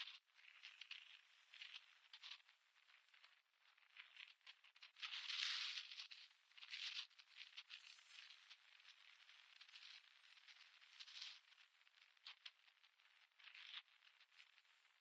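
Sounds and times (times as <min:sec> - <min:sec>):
small crackles: 0:00.0 - 0:15.0.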